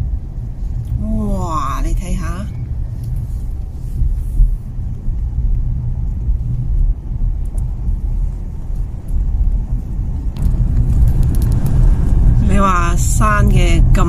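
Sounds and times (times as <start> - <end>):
car driving cabin rumble: 0.0 - 14.0.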